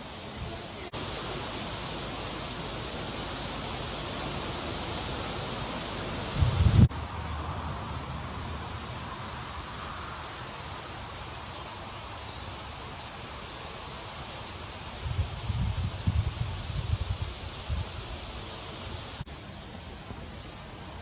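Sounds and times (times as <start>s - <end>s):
wind hissing: 0.0s - 21.0s
wind gusts rumbling on microphone: 0.2s - 11.5s, 14.8s - 21.0s.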